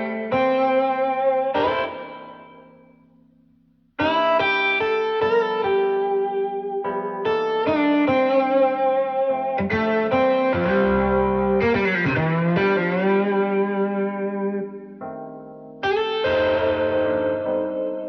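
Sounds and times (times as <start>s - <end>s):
plucked guitar notes: 0.0s - 18.0s.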